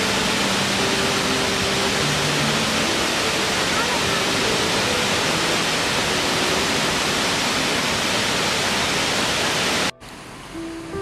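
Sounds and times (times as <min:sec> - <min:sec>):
waterfall rushing: 0:00.0 - 0:10.5
quiet water flow: 0:00.0 - 0:11.0.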